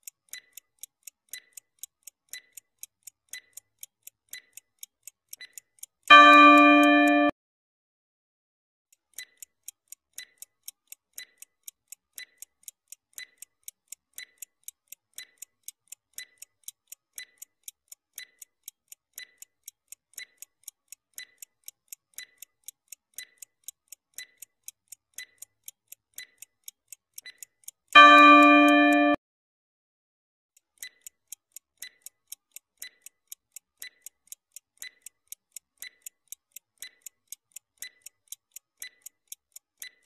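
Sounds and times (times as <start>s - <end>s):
stopwatch ticking: 0.0s - 7.3s, 8.9s - 29.2s, 30.6s - 40.0s.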